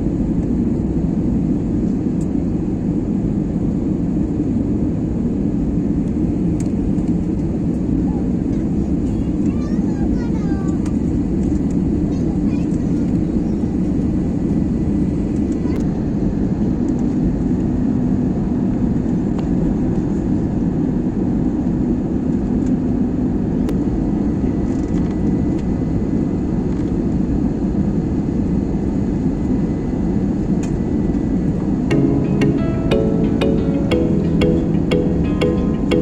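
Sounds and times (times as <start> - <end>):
airliner cabin engine roar: 0.0 - 31.9.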